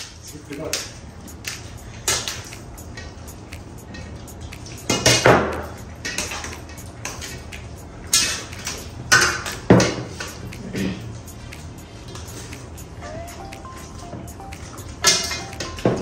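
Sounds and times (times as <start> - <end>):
eating noises: 0.1 - 16.0.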